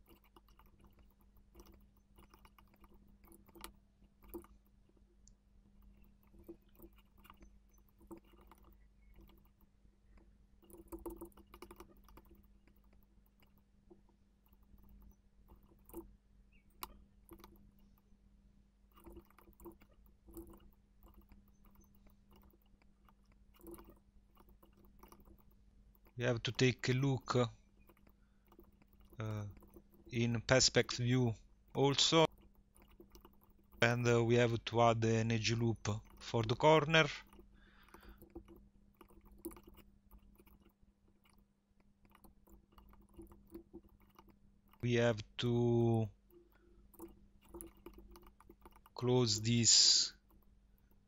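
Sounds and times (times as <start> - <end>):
keyboard clicks: 0.0 - 13.6, 14.4 - 18.1, 18.9 - 41.4, 42.0 - 51.0
computer mouse clicks: 0.0 - 18.1, 18.9 - 51.0
low steady hum: 0.0 - 51.0.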